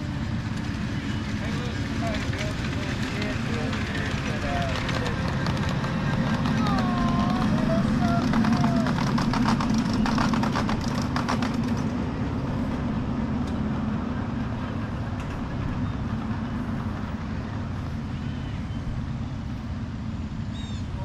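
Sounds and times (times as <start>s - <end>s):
sharp clicks of train wheels: 0.0s - 18.1s
miniature train passing: 0.0s - 21.0s.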